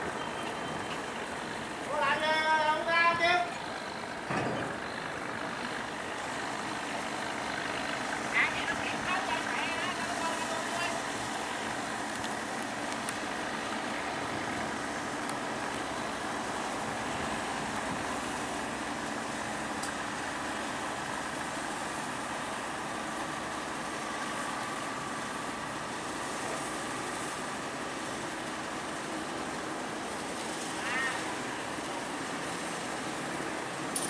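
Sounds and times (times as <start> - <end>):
engine droning: 0.0 - 34.0.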